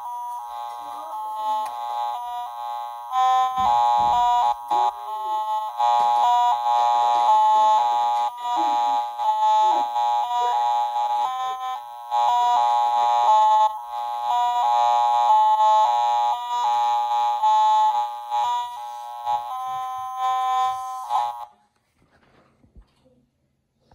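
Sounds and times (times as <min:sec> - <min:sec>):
toy electronic keyboard playing: 0:00.0 - 0:21.5.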